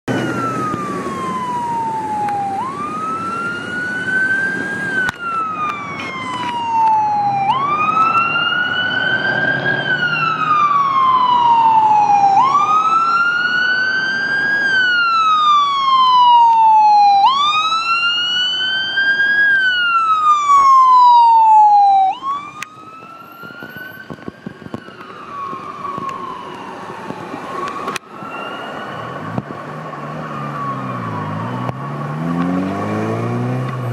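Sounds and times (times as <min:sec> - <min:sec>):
traffic noise: 0:00.0 - 0:33.9
ambulance siren wailing: 0:00.1 - 0:33.9.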